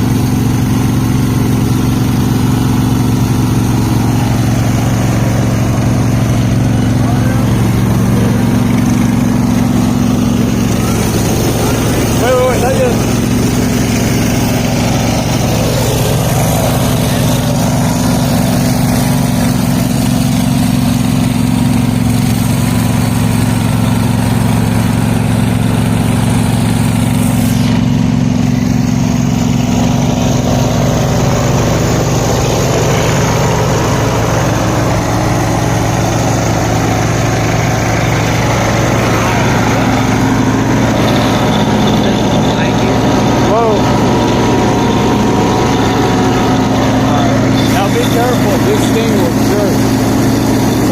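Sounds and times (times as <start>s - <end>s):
garden tractor engine running: 0.0s - 50.9s.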